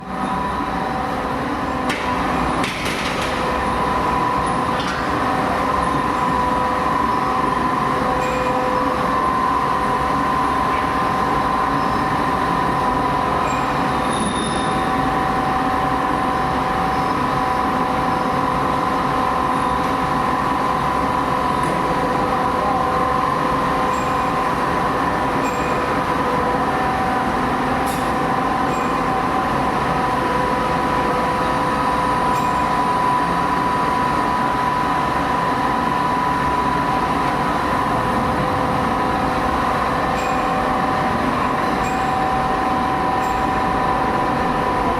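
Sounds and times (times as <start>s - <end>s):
furnace machinery noise: 0.0s - 44.9s.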